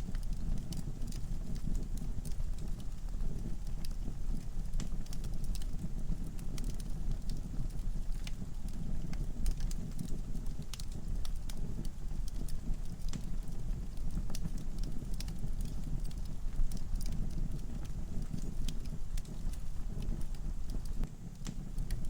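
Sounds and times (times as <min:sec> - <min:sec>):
log fire crackling: 0:00.0 - 0:22.0
low rumble of flames: 0:00.0 - 0:22.0.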